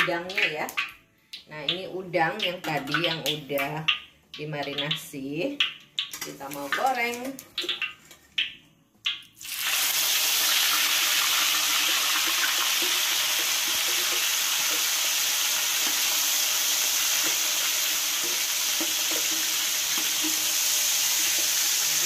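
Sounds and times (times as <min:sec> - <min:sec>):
prawns sizzling in hot oil: 0:02.3 - 0:22.0.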